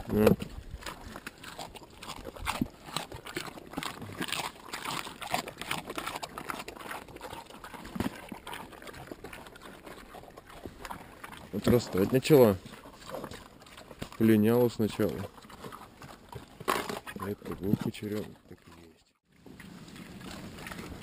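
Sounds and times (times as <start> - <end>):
pig chewing wetly: 0.0 - 21.0.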